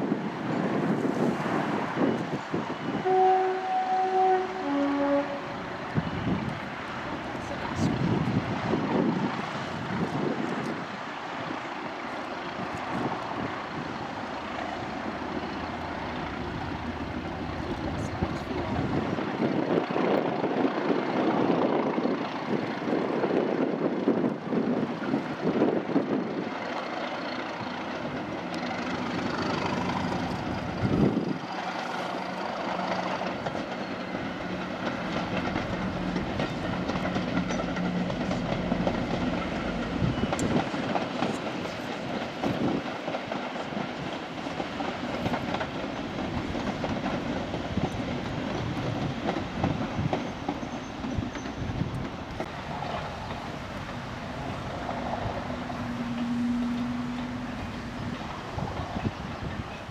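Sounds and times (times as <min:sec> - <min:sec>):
diesel locomotive engine: 0:00.0 - 0:59.9
train rumble and clatter: 0:00.0 - 0:59.9.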